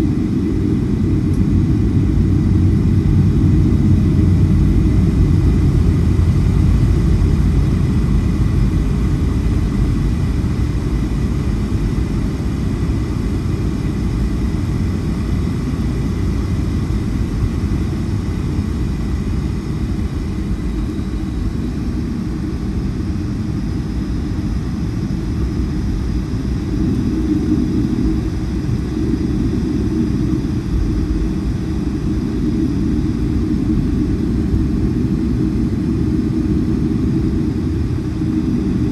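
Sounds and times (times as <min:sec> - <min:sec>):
airliner cabin engine rumble: 0:00.0 - 0:38.9
faint high whine: 0:00.0 - 0:38.9.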